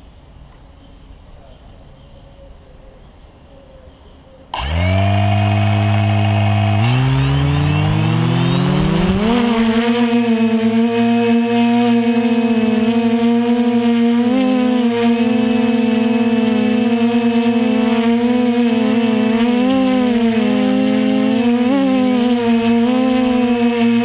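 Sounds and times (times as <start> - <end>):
quadcopter propellers whining: 4.5 - 24.0.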